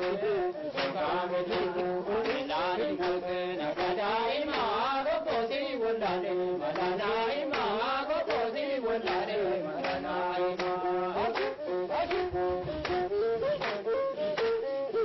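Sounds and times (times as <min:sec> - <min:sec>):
rhythmic hand claps: 0:00.0 - 0:15.0.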